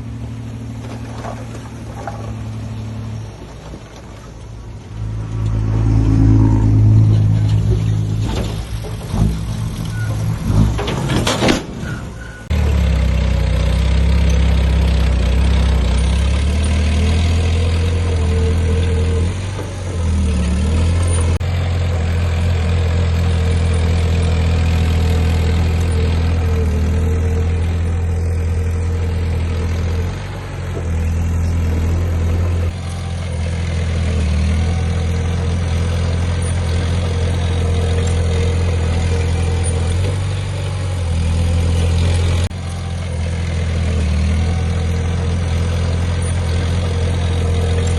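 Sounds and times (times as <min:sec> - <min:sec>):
heavy diesel engine humming: 0:00.0 - 0:47.9.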